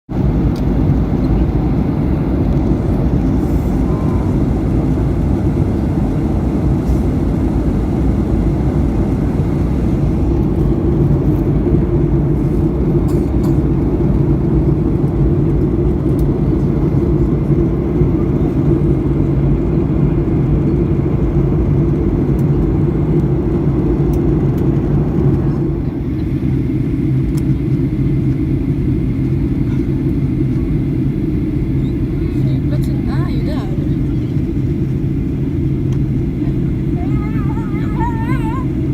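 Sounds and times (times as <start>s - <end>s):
aircraft cabin roar: 0.1s - 38.9s.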